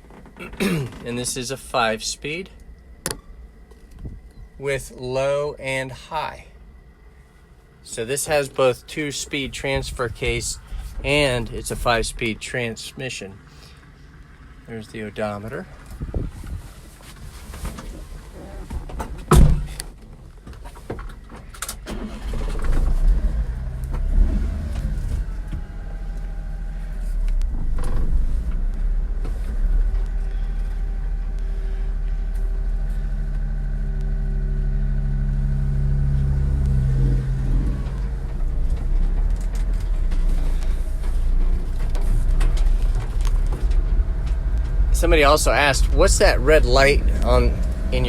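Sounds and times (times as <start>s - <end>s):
truck engine running: 0.0s - 20.3s, 21.0s - 48.0s.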